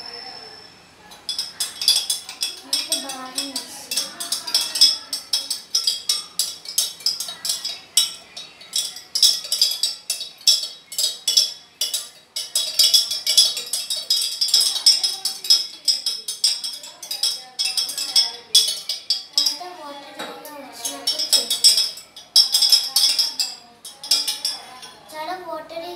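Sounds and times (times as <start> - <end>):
spoon clinking in a jug: 0.0 - 25.1.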